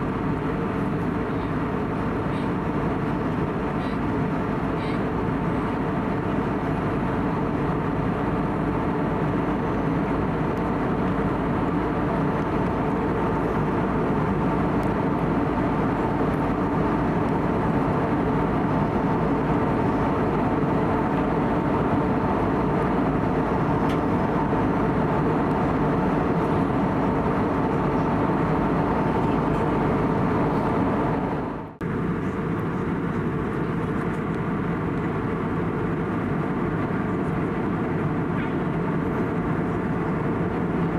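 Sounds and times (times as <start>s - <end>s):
jet engine drone: 0.0s - 40.9s
rushing air in aircraft cabin: 0.0s - 40.9s.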